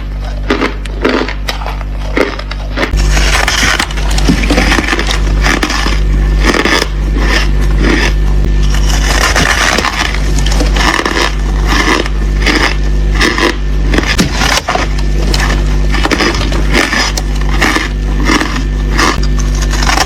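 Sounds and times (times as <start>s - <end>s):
ice crunching while chewed: 0.0s - 20.0s
steady low hum: 0.0s - 20.0s.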